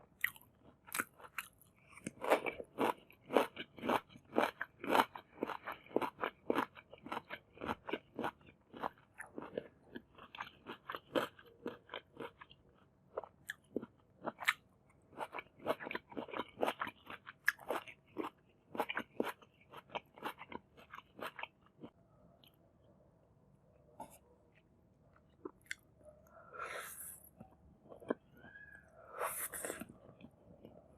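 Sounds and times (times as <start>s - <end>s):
person chewing crunchy food: 0.0s - 22.0s, 24.0s - 30.9s.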